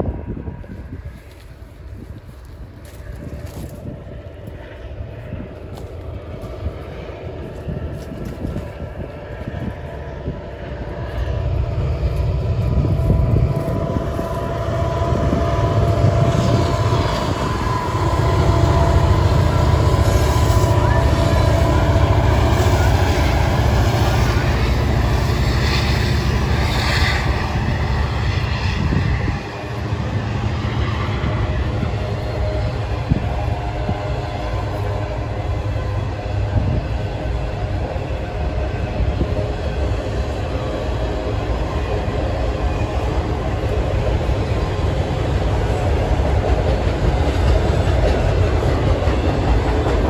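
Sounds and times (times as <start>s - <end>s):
freight train passing rumble: 0.0s - 50.0s.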